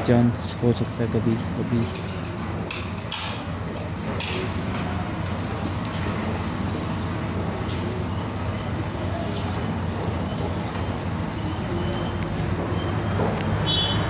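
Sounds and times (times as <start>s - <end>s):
low rumble of vehicle noise: 0.0s - 14.0s.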